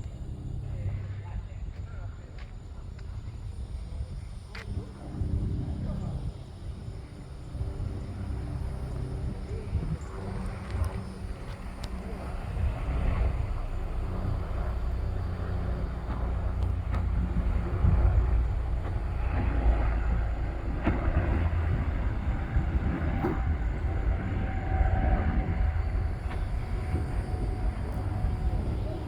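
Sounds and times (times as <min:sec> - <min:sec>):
helicopter flying by: 0:03.4 - 0:29.0.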